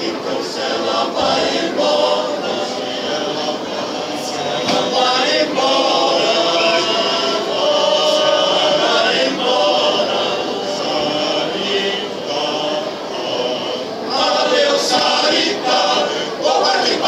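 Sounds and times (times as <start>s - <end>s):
men's choir singing: 0.0s - 17.0s.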